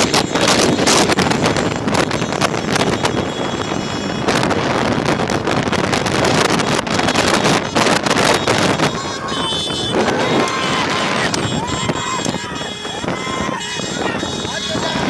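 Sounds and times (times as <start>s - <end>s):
motorcycles riding: 0.0s - 15.0s
wind buffeting microphone: 0.0s - 15.0s.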